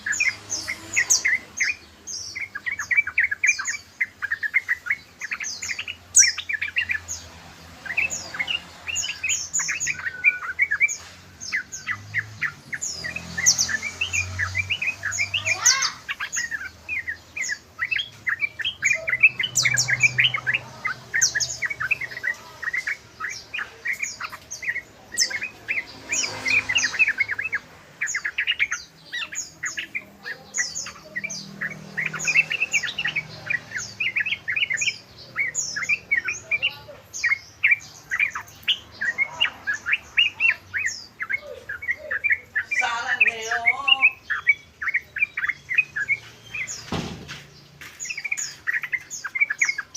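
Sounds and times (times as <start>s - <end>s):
bulbul singing rapid chirps: 0.0s - 49.9s.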